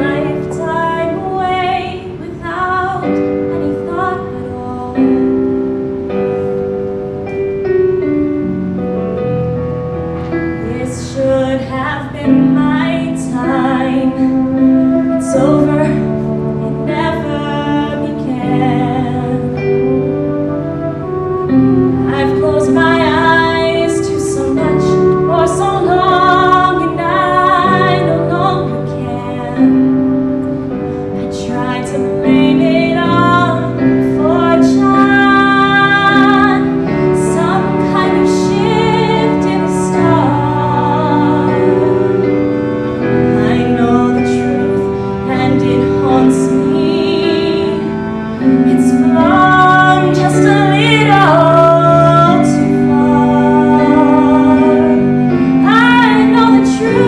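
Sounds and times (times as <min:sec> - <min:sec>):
woman singing: 0:00.0 - 0:05.6, 0:10.6 - 0:30.4, 0:31.1 - 0:57.0.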